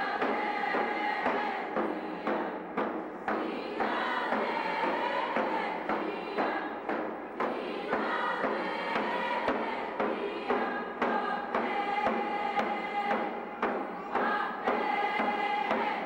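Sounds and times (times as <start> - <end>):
background music with drum beat: 0.0 - 16.0.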